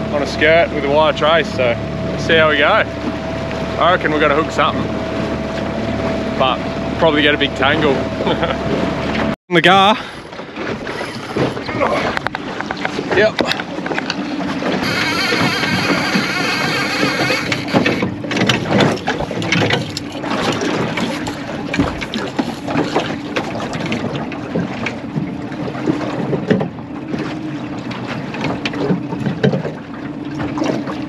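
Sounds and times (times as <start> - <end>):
knocks and clatter in boat: 0.0 - 31.0
outboard motor running: 0.0 - 31.0
water slapping boat hull: 0.0 - 31.0.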